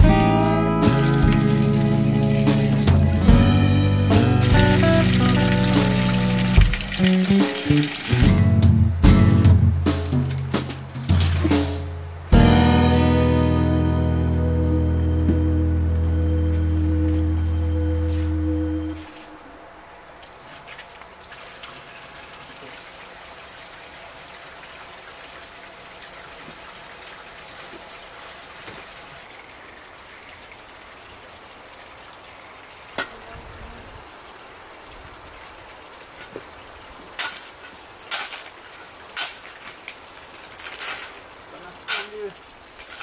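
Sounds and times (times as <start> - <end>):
outdoor background hiss: 0.0 - 43.0.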